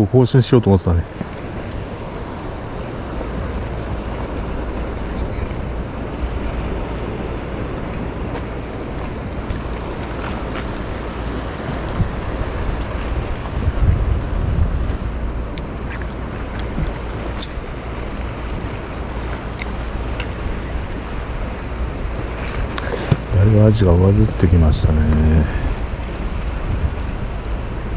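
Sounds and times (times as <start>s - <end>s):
sea water lapping: 0.0s - 27.9s
wind buffeting microphone: 0.0s - 27.9s.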